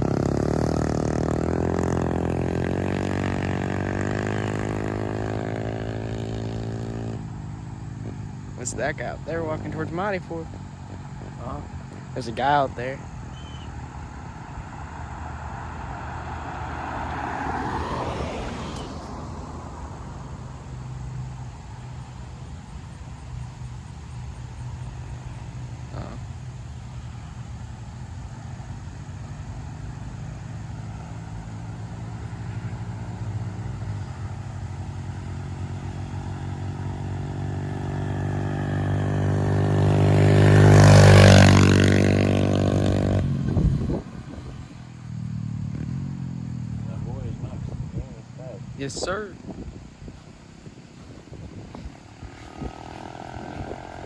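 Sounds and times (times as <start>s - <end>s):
vehicle engines running: 0.0s - 54.0s
vehicle passing: 0.0s - 54.0s.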